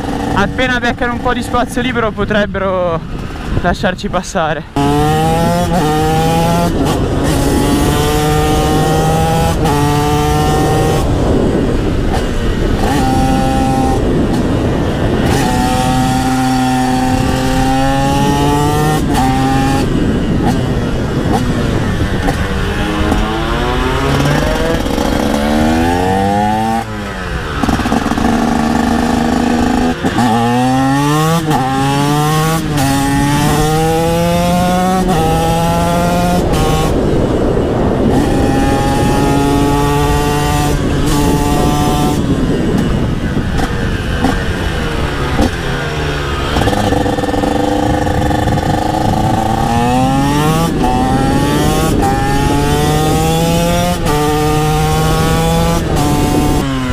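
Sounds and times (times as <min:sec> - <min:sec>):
motorcycle engine revving: 0:00.0 - 0:03.7, 0:04.6 - 0:56.9
wind noise: 0:00.0 - 0:56.9.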